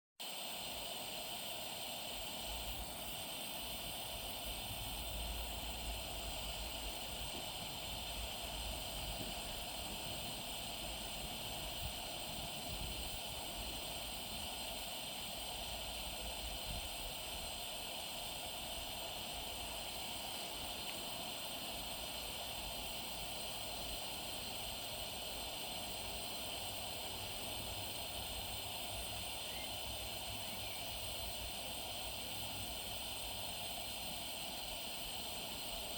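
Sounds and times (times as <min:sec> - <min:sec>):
lanterns hissing: 0:00.2 - 0:35.9.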